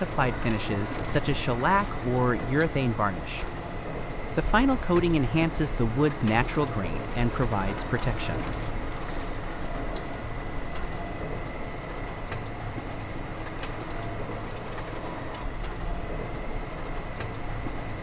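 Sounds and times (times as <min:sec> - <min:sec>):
workshop machinery hum: 0:00.0 - 0:18.0.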